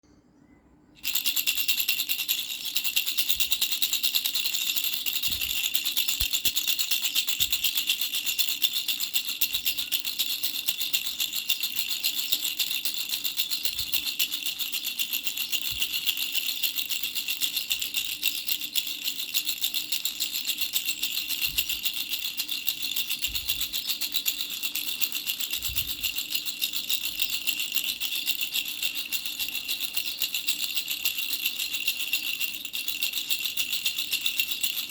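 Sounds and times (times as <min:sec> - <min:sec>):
baby rattle bells jingling: 0:01.0 - 0:34.9.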